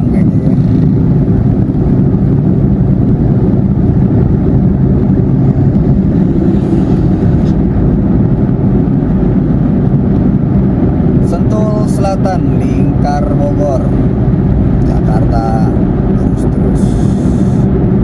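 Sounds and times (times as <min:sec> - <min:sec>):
car cabin road and engine noise: 0:00.0 - 0:18.0.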